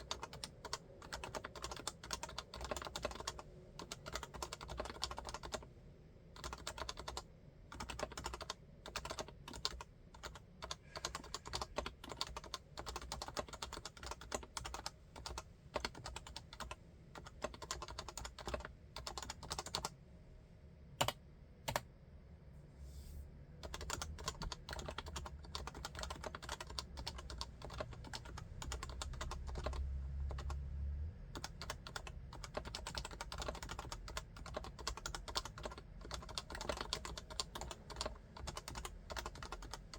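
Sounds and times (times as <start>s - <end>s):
keyboard typing: 0.0s - 5.7s, 6.4s - 19.9s, 21.0s - 21.9s, 23.6s - 30.6s, 31.3s - 39.9s.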